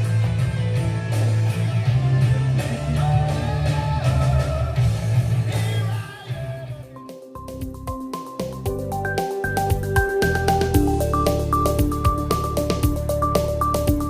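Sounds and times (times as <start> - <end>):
rock music with guitar: 0.0 - 14.0.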